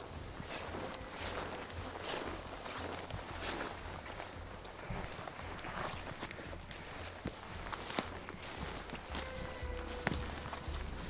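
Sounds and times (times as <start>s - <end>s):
clothing and gear rustling: 0.0s - 11.0s
footsteps through grass: 0.0s - 11.0s.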